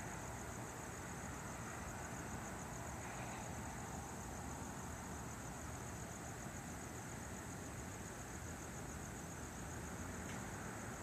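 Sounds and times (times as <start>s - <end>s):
cricket trill: 0.0s - 11.0s
distant road traffic hum: 0.0s - 11.0s.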